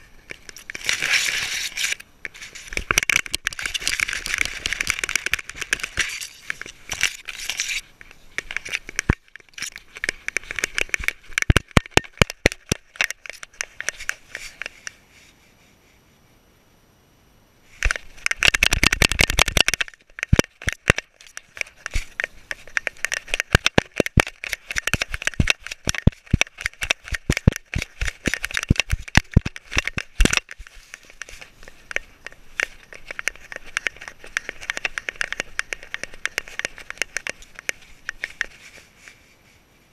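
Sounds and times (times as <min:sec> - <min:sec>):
camera housing rubbing rumble: 0:00.0 - 0:14.9, 0:17.8 - 0:39.4
sharp clicks and knocks: 0:00.0 - 0:15.0, 0:17.8 - 0:38.9
soft crackling rustle: 0:00.0 - 0:16.6, 0:17.6 - 0:39.9.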